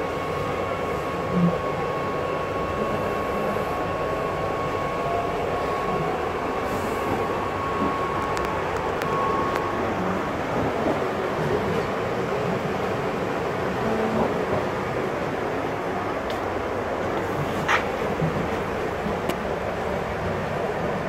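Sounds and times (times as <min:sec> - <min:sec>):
thin steady whine: 0:00.0 - 0:21.0
train running and rail rumble: 0:00.0 - 0:21.0.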